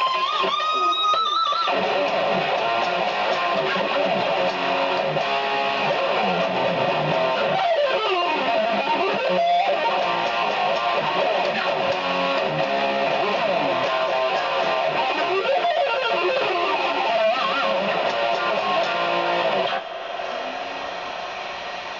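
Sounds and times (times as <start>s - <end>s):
overdriven electric guitar: 0.0s - 21.9s.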